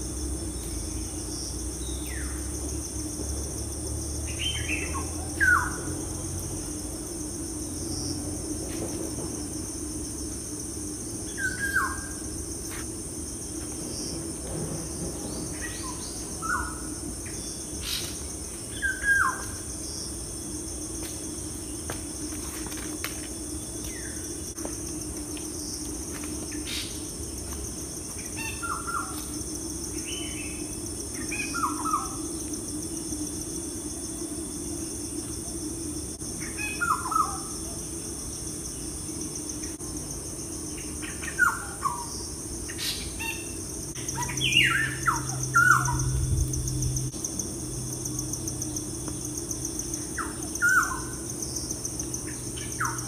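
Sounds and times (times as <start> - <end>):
insects trilling: 0.0 - 53.0
low steady hum: 0.0 - 53.0.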